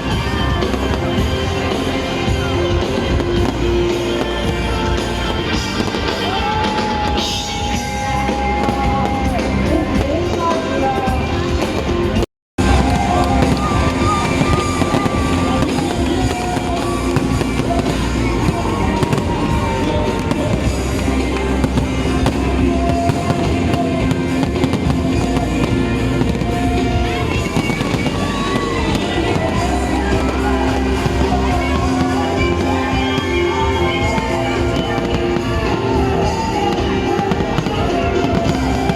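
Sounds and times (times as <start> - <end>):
fireworks bursting: 0.0 - 38.9
loud music: 0.0 - 38.9.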